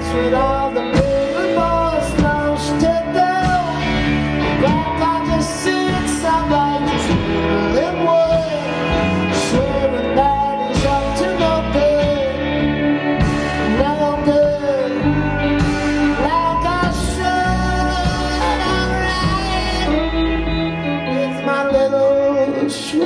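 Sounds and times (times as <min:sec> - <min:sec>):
live rock band: 0:00.0 - 0:23.0
person singing: 0:00.0 - 0:23.0.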